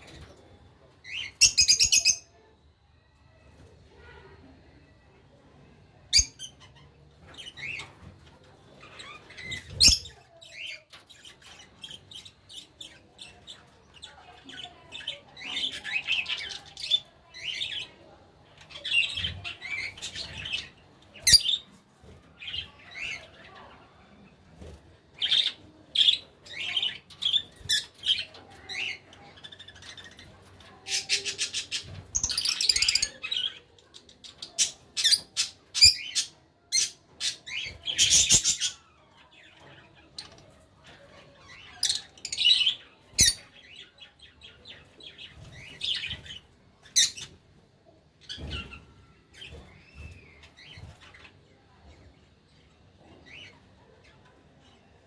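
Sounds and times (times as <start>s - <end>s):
lovebirds chirping and squawking: 0.0s - 2.5s, 5.9s - 47.4s, 48.2s - 54.8s.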